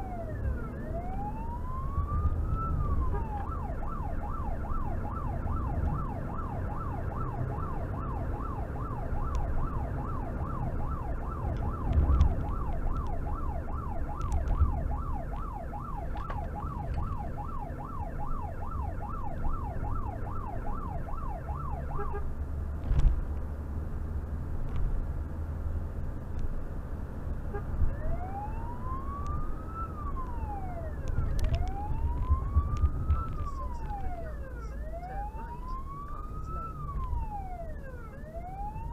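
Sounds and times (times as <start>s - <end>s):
siren wail: 0.0s - 22.3s, 27.8s - 38.9s
siren yelp: 0.0s - 22.3s, 27.5s - 38.9s
engine and road noise: 0.0s - 38.9s.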